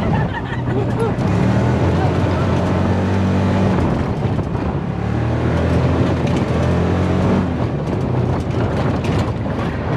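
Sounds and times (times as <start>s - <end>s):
vehicle engine humming: 0.0s - 9.9s
wind on microphone: 1.2s - 9.9s.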